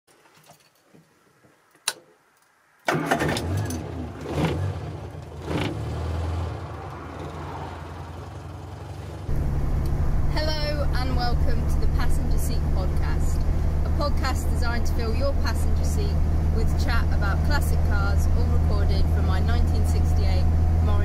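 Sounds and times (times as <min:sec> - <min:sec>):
car engine starting and idling: 0:02.8 - 0:21.0
engine revving: 0:02.9 - 0:21.0.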